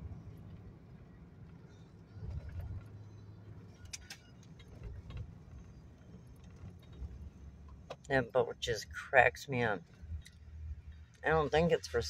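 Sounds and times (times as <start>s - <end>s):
truck rumbling from inside cab: 0.0s - 12.0s.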